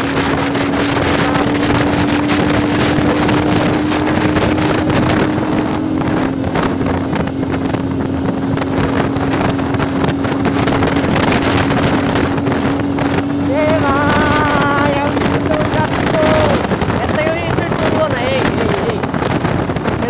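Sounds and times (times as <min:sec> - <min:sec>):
motorcycle engine drone: 0:00.0 - 0:20.0
wind rush on microphone: 0:00.0 - 0:20.0.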